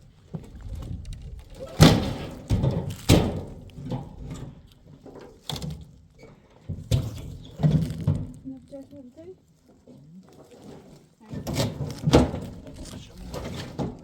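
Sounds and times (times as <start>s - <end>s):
objects being handled: 0.2s - 14.0s.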